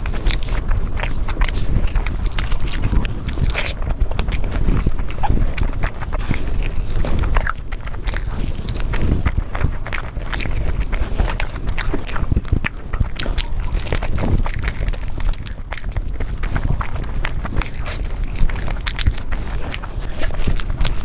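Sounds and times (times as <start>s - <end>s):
chewing food: 0.0s - 21.0s
wet mouth smacks and clicks: 0.0s - 21.0s.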